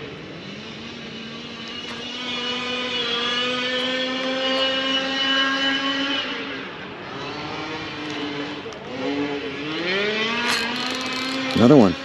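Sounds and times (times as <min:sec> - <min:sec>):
propeller airplane flying past: 0:00.0 - 0:12.0.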